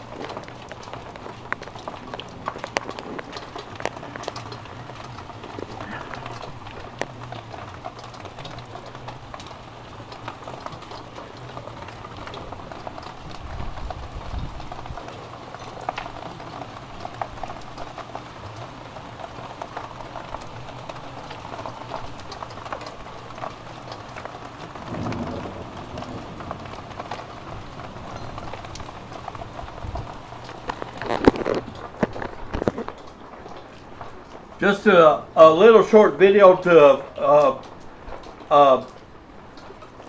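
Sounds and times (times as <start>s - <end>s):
heavy rain pouring: 0.0s - 40.0s
low rumbles: 0.0s - 40.0s
raindrops ticking and splashing: 0.0s - 40.0s.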